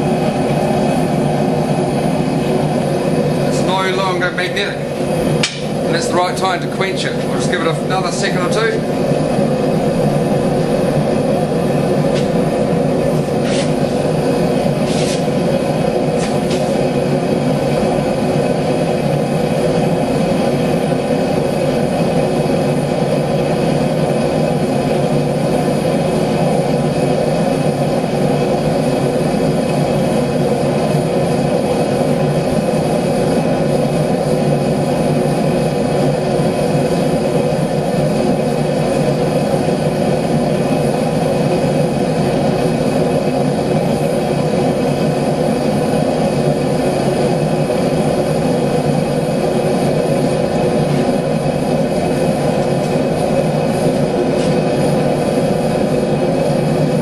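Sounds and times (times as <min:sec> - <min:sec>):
gas forge burner flame rushing: 0:00.0 - 0:57.0.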